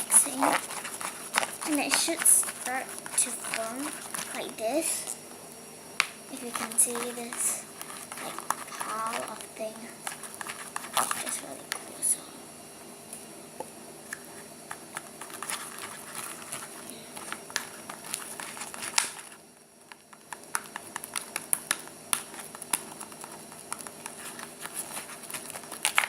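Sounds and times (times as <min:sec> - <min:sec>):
slime being stirred: 0:00.0 - 0:05.2, 0:06.3 - 0:12.2, 0:14.0 - 0:19.4, 0:20.0 - 0:26.0.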